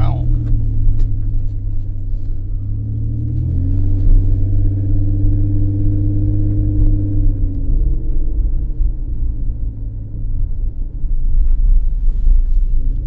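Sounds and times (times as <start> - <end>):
car engine and exhaust droning: 0.0 - 13.0.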